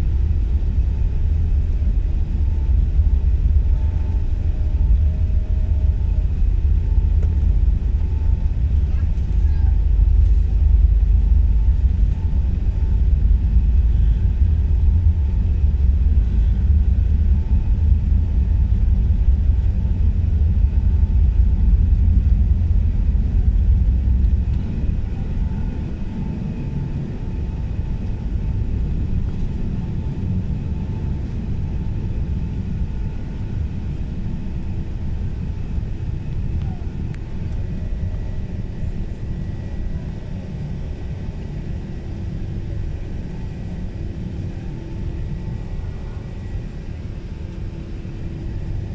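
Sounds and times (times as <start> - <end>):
airplane cabin low rumble: 0.0 - 48.9
faint steady engine tones: 0.0 - 48.9.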